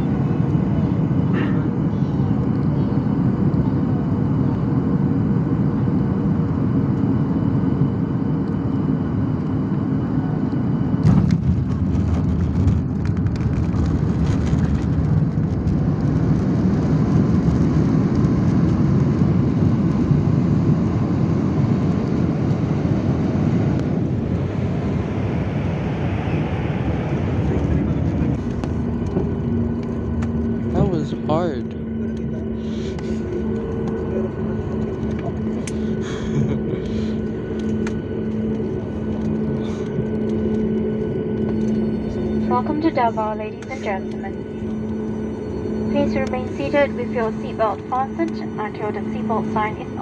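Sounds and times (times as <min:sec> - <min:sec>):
airliner cabin rumble: 0:00.0 - 0:50.0
jet engine roar: 0:00.0 - 0:50.0.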